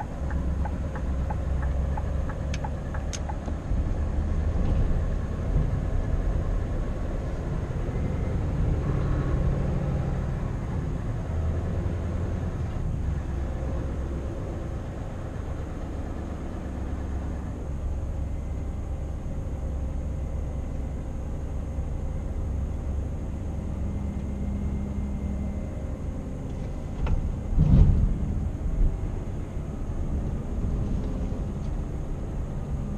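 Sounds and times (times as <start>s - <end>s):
road noise: 0.0s - 32.9s
truck diesel engine drone: 0.0s - 32.9s.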